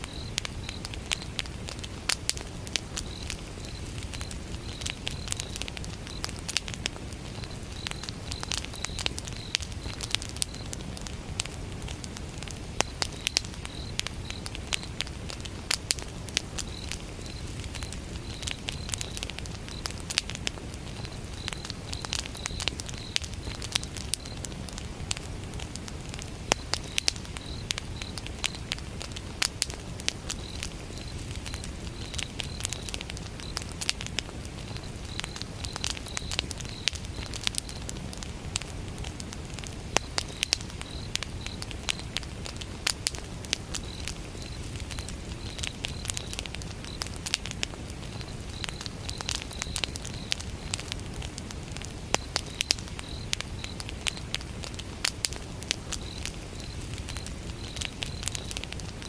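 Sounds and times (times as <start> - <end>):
crickets chirping: 0.0 - 59.0
wood fire crackling: 0.0 - 59.0.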